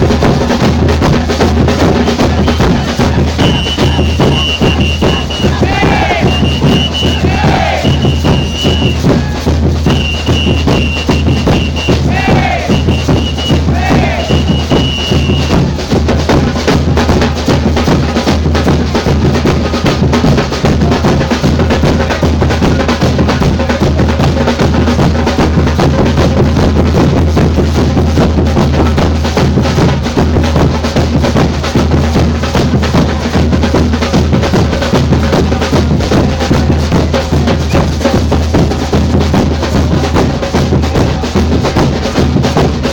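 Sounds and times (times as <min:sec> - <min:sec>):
deep bass drums: 0:00.0 - 0:42.9
samba percussion ensemble: 0:00.0 - 0:42.9.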